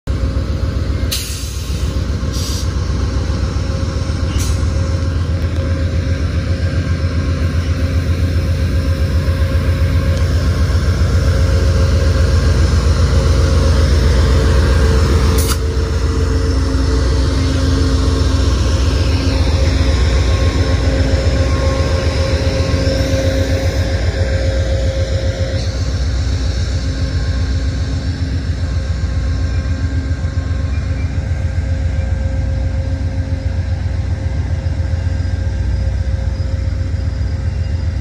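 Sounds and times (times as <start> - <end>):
diesel locomotive engine rumble: 0.0 - 38.0.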